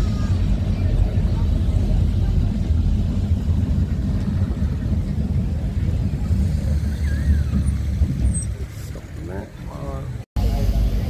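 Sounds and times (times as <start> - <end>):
tram wheels and motors rumbling: 0.0 - 11.0
wind buffeting microphone: 0.0 - 11.0.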